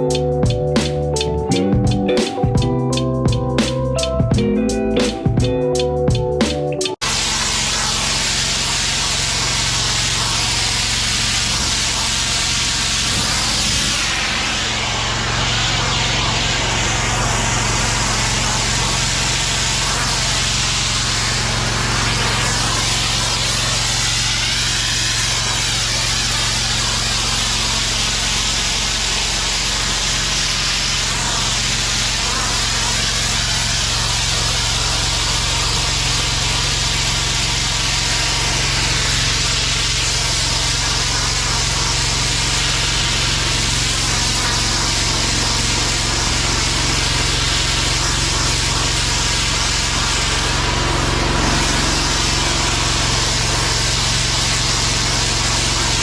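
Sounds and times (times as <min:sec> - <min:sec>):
high-pressure water spraying: 0:06.9 - 0:56.0
pressure washer engine hum: 0:06.9 - 0:56.0.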